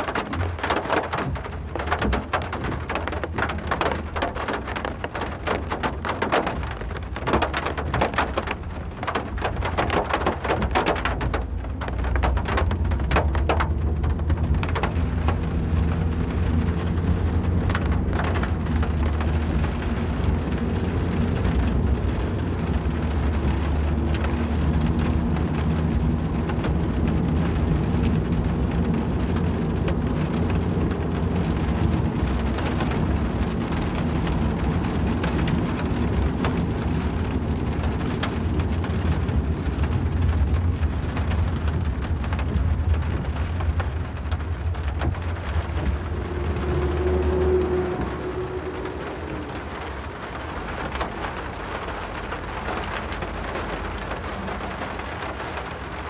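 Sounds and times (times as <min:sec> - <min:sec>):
car driving rumble: 0:00.0 - 0:56.0
rain hitting car: 0:00.0 - 0:56.0.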